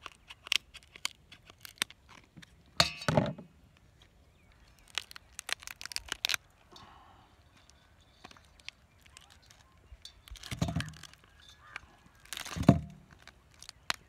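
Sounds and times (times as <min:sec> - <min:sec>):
prawn shell crackling: 0:00.0 - 0:02.6, 0:04.5 - 0:14.0.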